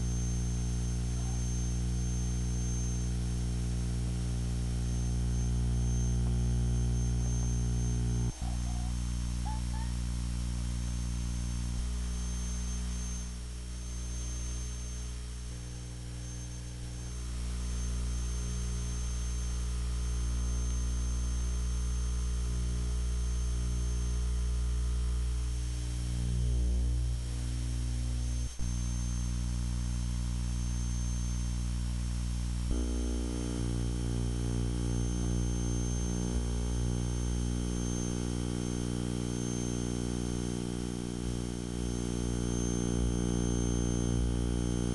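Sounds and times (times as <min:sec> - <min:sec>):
faint high whine: 0:00.0 - 0:44.9
low electrical hum: 0:00.0 - 0:44.9.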